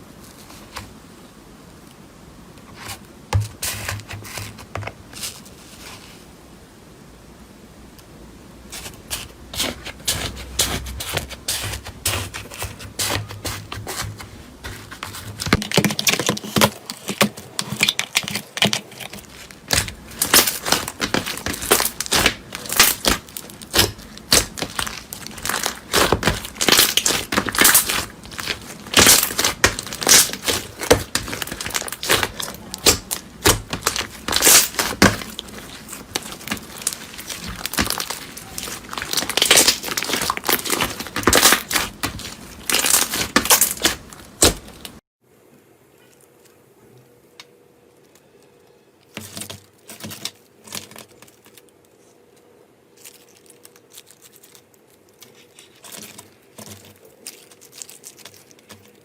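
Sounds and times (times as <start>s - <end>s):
material crinkling and crunching: 0.0s - 1.1s, 2.6s - 6.3s, 8.6s - 45.1s, 47.4s - 59.0s.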